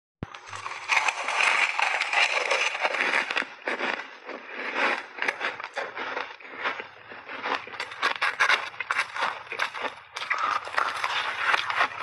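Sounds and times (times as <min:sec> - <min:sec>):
crunching and chewing ice: 0:00.2 - 0:12.0.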